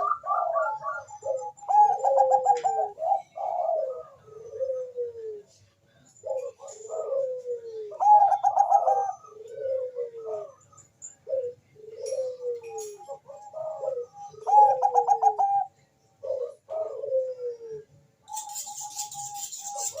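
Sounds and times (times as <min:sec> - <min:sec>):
dove cooing: 0:00.0 - 0:05.6, 0:06.2 - 0:20.0.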